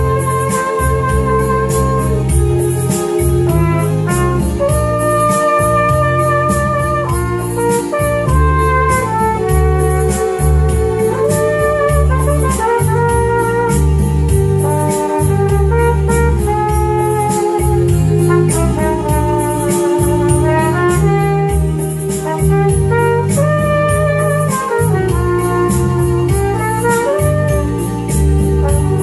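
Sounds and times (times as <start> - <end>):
bass line: 0.0 - 29.0
electronic keyboard backing: 0.0 - 29.0
flugelhorn melody: 0.0 - 29.0
steady drum beat: 0.0 - 29.0.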